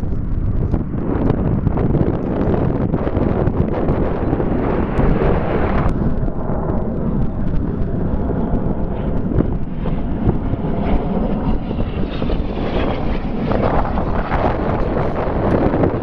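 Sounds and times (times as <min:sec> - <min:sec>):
jet engine rumble flying past: 0:00.0 - 0:16.0
wind buffeting microphone: 0:00.0 - 0:16.0.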